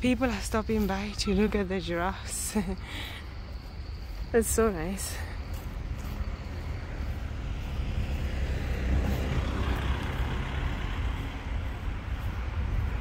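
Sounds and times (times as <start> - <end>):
steady low rumble: 0.0 - 13.0
vehicle engine and tyre noise: 0.0 - 13.0.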